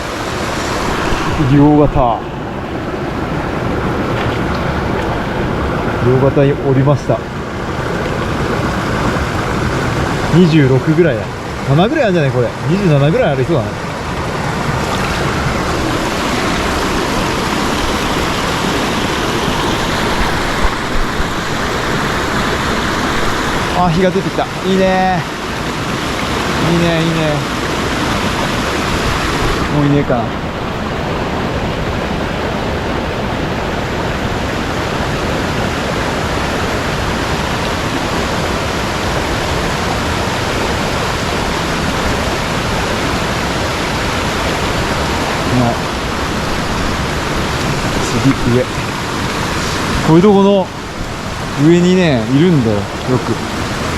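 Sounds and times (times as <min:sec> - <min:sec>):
stream water rushing: 0:00.0 - 0:53.9.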